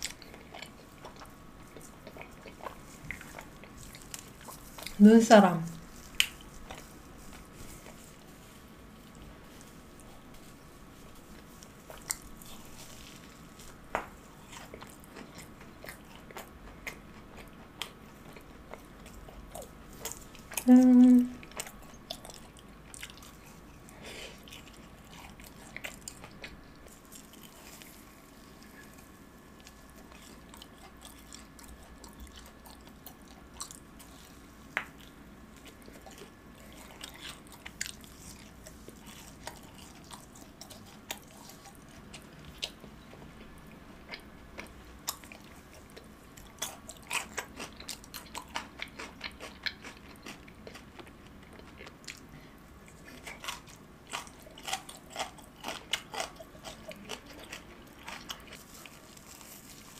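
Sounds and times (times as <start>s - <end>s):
chewing with wet mouth clicks: 0.0s - 5.0s, 5.9s - 8.1s, 11.4s - 20.7s, 21.4s - 59.9s.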